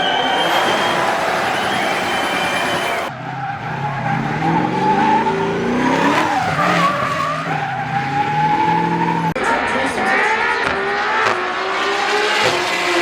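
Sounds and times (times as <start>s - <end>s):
tyres squealing and skidding: 0.0s - 10.5s
engine revving hard: 0.3s - 13.0s.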